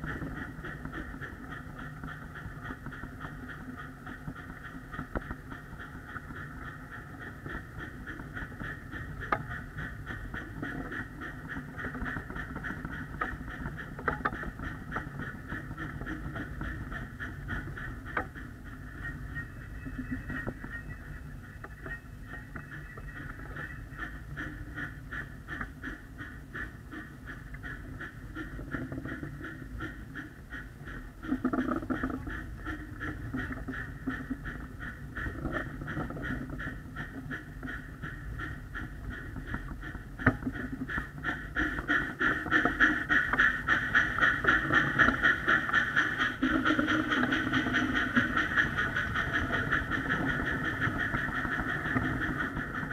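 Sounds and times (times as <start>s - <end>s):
miniature train clattering on track: 0.0s - 52.9s.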